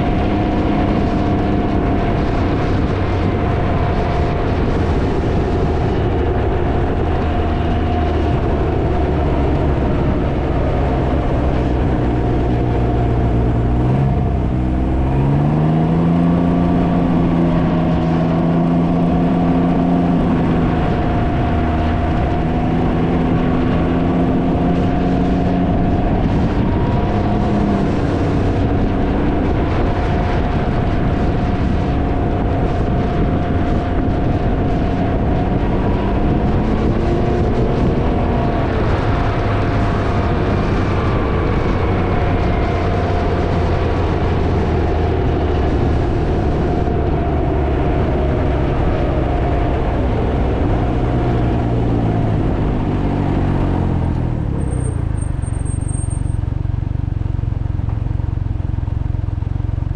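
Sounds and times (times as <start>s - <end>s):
wind buffeting microphone: 0.0s - 56.8s
motorcycle engine running: 0.0s - 59.9s.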